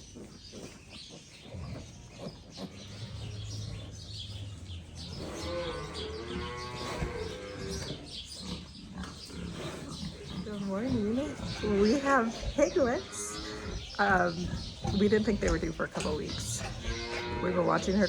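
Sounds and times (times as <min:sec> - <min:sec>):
pig grunting: 0:00.0 - 0:18.0.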